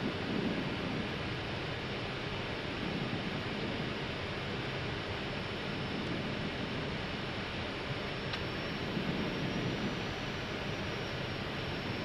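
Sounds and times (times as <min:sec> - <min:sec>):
jet engines at approach thrust: 0:00.0 - 0:12.0.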